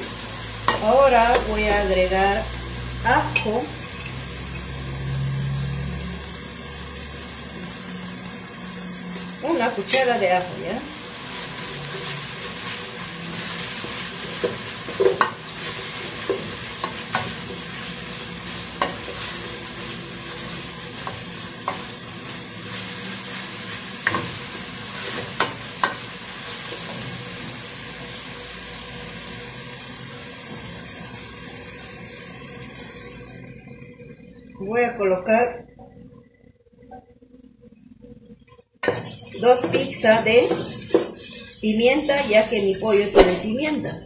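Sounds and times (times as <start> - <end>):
onion sizzling in hot oil: 0.0 - 34.7, 38.3 - 44.0.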